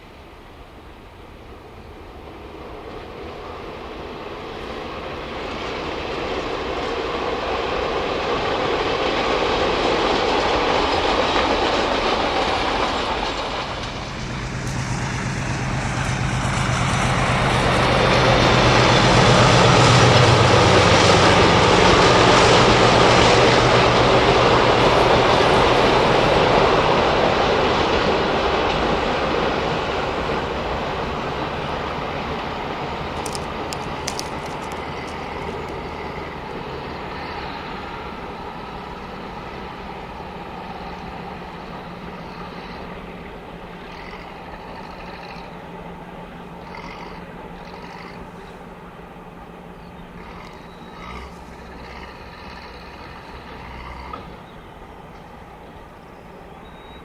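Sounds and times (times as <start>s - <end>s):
diesel locomotive engine: 0.0s - 57.0s
train wagons rumbling on rails: 0.4s - 57.0s.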